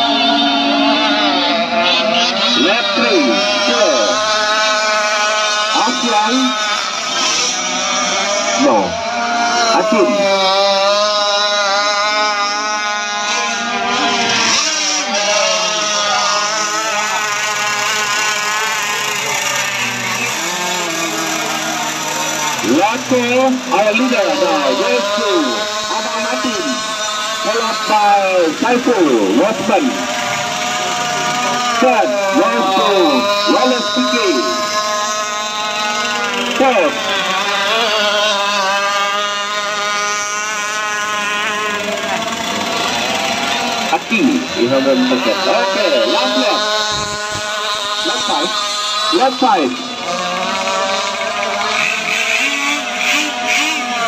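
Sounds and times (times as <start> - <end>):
racing boat motors whining: 0.0 - 54.0.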